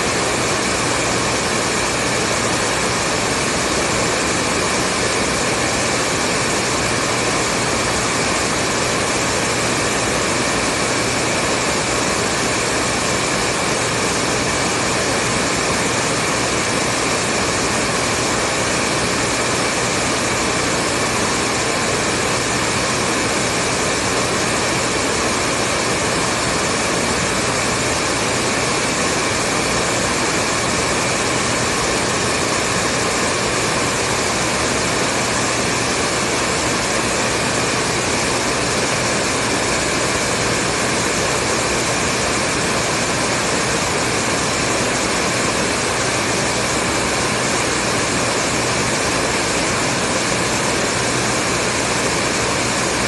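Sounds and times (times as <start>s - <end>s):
hair dryer whooshing: 0.0s - 53.0s.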